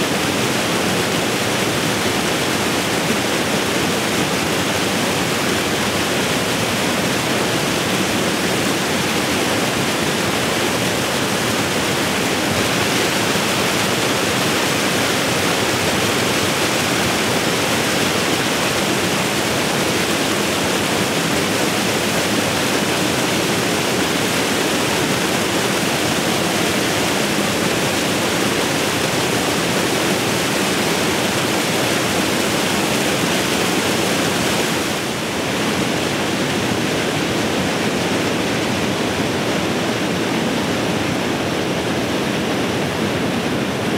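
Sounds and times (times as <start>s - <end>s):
rushing white water rapids: 0.0s - 43.9s.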